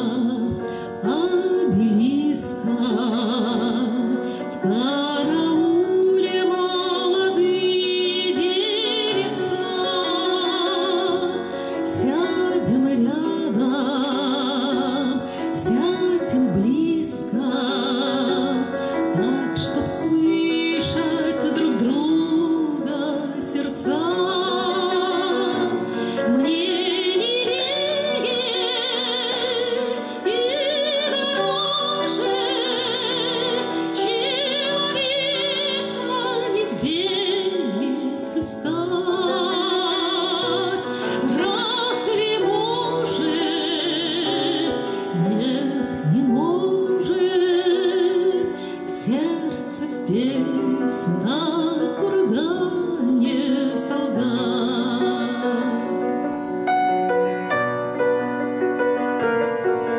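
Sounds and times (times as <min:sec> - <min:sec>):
woman singing with vibrato: 0:00.0 - 0:56.1
grand piano: 0:00.0 - 0:59.9.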